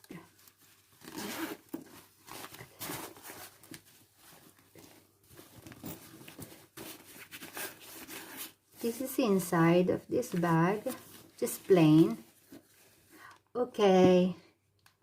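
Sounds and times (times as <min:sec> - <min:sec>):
fabric pouch rustling: 0:00.0 - 0:13.2.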